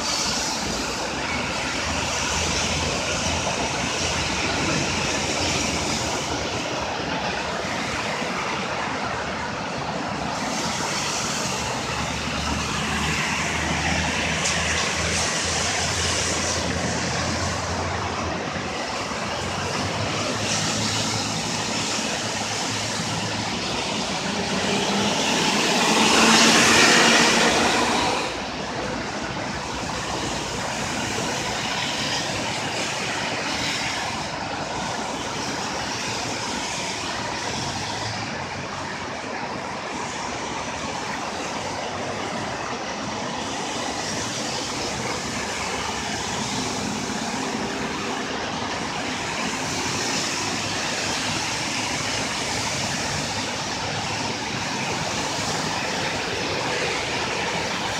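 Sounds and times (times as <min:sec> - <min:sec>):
traffic engine and tyre noise: 0:00.0 - 0:57.9
tyres splashing through water: 0:00.0 - 0:57.9.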